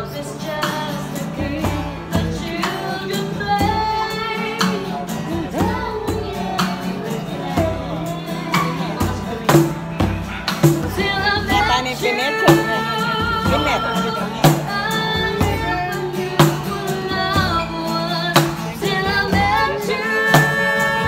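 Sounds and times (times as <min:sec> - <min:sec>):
acoustic guitar: 0:00.0 - 0:21.0
woman singing: 0:00.0 - 0:21.0.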